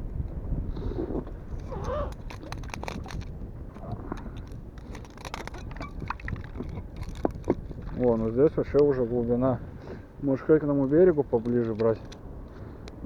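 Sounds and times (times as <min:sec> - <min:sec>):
wind rumble on microphone: 0:00.0 - 0:13.0
fishing tackle clicks and scrapes: 0:00.9 - 0:09.4, 0:10.7 - 0:13.0.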